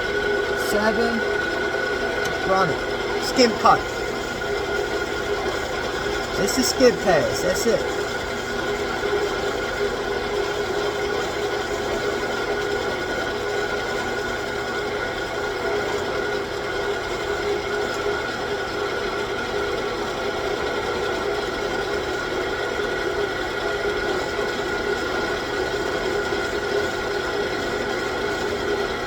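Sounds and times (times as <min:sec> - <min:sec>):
lathe gear whine: 0:00.0 - 0:29.0.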